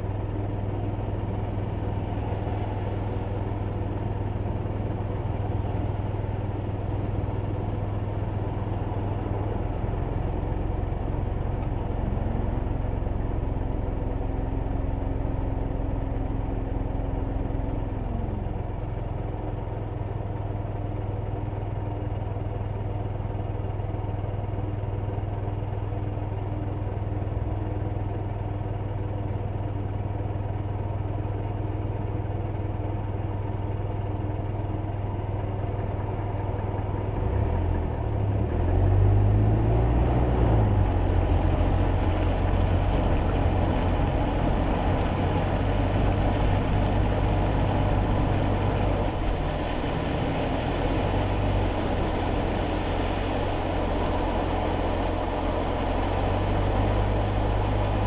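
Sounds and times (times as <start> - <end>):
car engine hum and road noise: 0.0 - 58.0.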